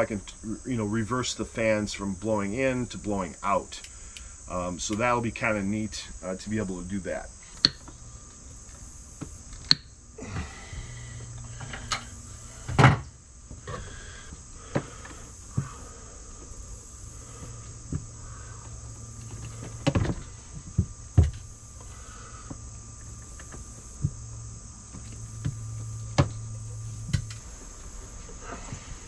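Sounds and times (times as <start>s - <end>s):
steady high hiss: 0.0s - 29.0s.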